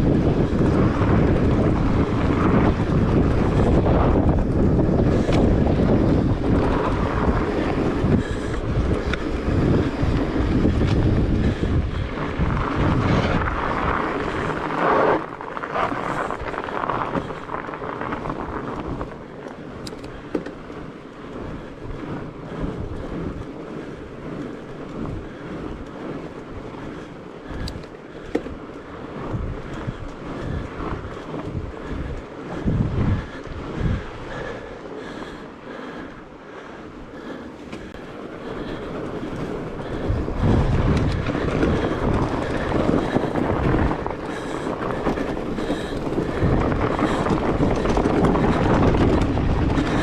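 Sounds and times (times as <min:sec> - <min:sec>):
bike tyre noise: 0:00.0 - 0:50.0
wind buffeting microphone: 0:00.0 - 0:50.0.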